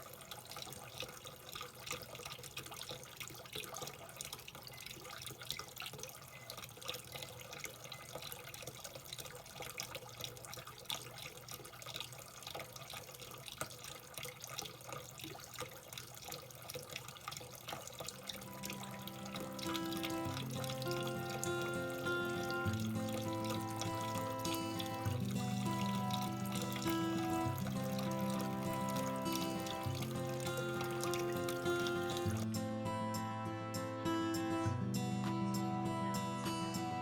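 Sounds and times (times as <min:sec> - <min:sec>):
small splashes: 0:00.0 - 0:32.5
tap water running into sink: 0:00.0 - 0:32.5.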